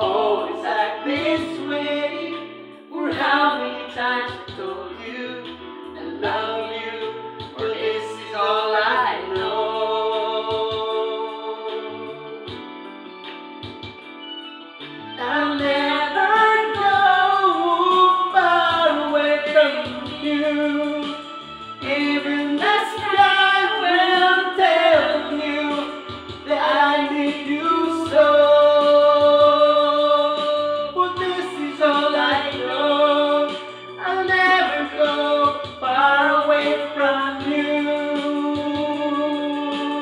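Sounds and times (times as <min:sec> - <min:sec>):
man singing into microphone: 0:00.0 - 0:12.6, 0:15.2 - 0:40.0.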